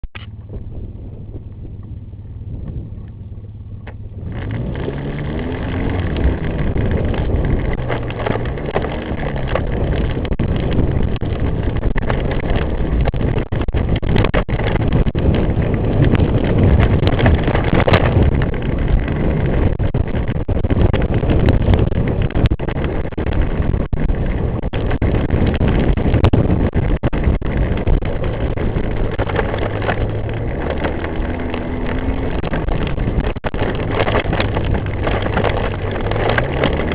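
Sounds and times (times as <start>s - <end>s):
atv engine running: 0.0s - 36.9s
rough rushing noise: 3.8s - 36.9s.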